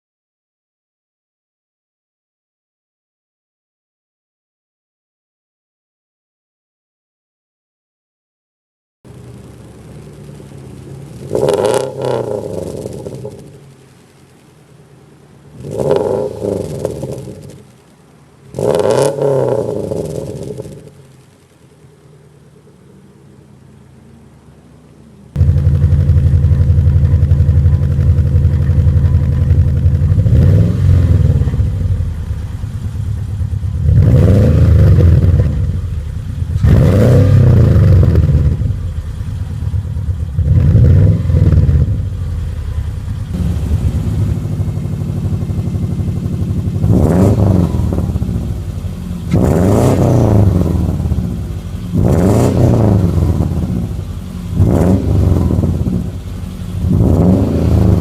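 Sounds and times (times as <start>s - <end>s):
car engine idling: 9.1s - 58.0s
car engine revving: 9.1s - 58.0s
loud exhaust idling: 9.1s - 58.0s.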